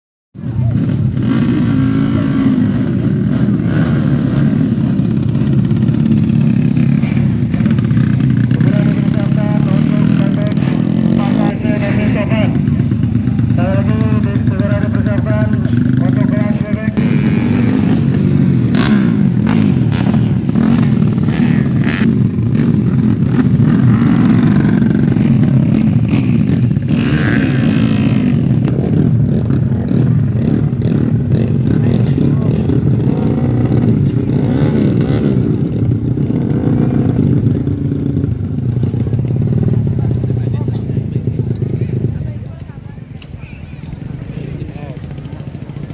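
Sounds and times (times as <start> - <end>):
motorcycle engines revving: 0.4 - 45.9.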